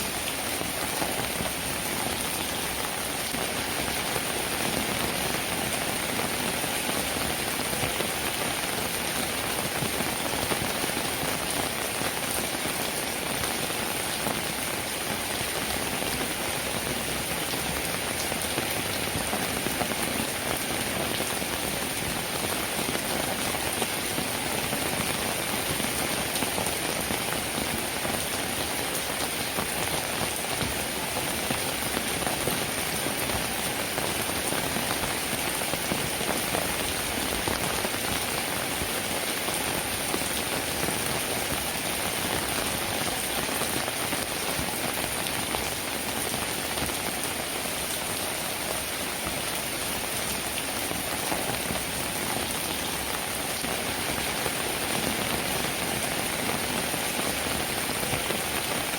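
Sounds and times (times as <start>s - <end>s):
steady rainfall: 0.0s - 58.9s.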